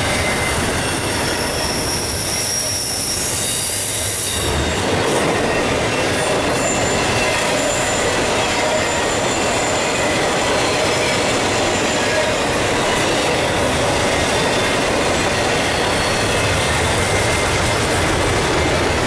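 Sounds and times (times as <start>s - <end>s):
high-pitched wheel squeals: 0.0s - 4.8s, 5.4s - 17.5s
freight wheels rumbling on rail: 0.0s - 19.0s.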